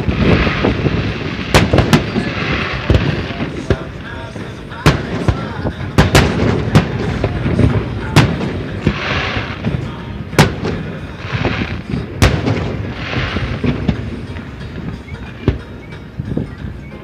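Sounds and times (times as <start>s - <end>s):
firework shells bursting: 0.0s - 15.7s.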